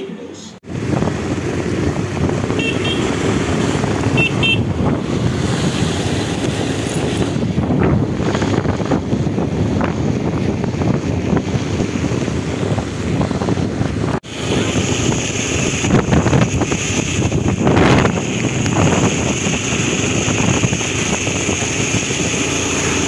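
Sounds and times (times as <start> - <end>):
engine and tyres on wet road: 0.6 - 23.0.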